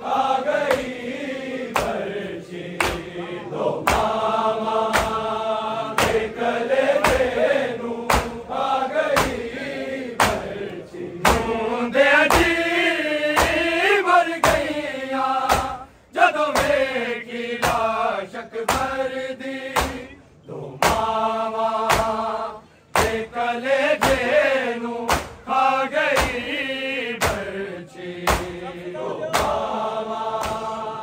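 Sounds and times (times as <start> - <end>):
men chanting together: 0.0 - 31.0.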